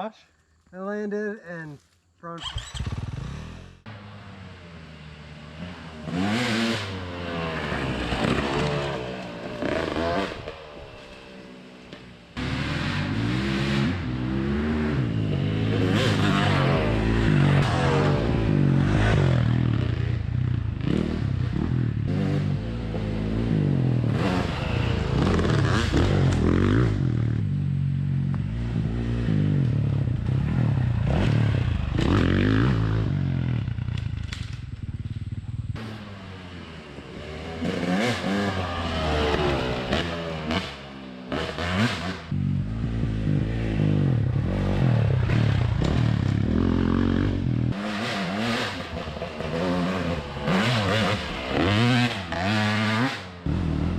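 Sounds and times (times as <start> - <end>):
dirt bike engine revving: 2.4 - 53.9.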